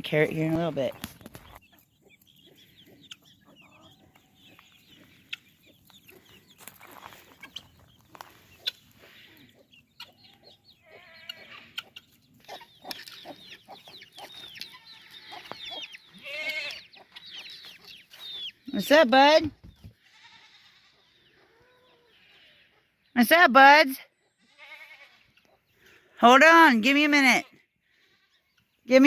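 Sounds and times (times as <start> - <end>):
chickens clucking: 0.0 - 23.1, 25.1 - 27.4.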